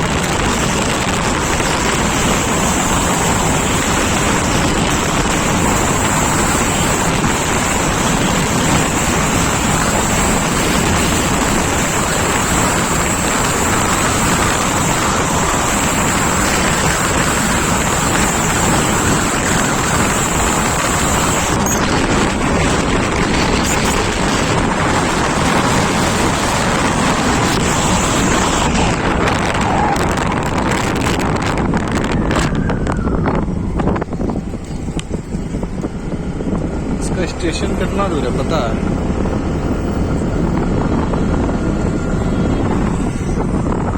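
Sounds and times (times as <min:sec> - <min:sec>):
vehicle rumble: 0:00.0 - 0:43.9
wind noise on microphone: 0:00.0 - 0:43.9.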